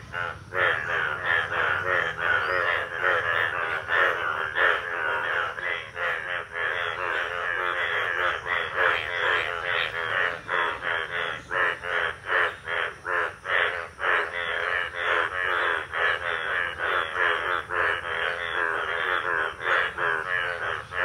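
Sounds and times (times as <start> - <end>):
bullfrogs croaking in chorus: 0.0 - 21.0.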